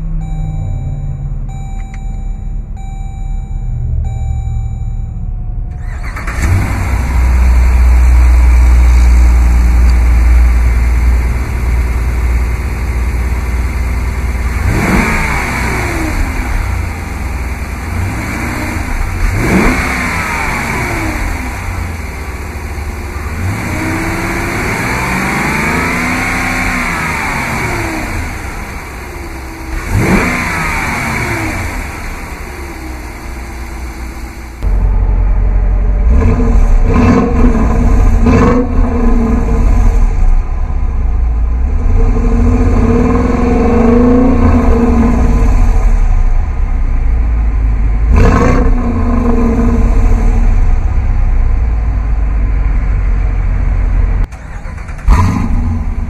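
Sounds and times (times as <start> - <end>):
engine revving: 0.0 - 40.7, 41.5 - 46.7, 47.7 - 56.0
car engine idling: 0.0 - 56.0
car engine starting: 0.0 - 56.0.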